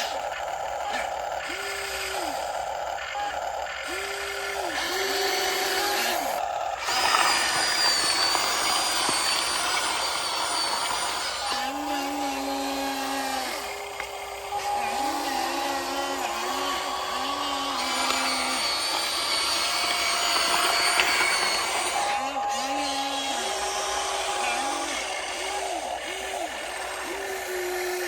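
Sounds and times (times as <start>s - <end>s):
electric motors whining: 0.0s - 28.0s
steady motor whirring: 0.0s - 28.0s.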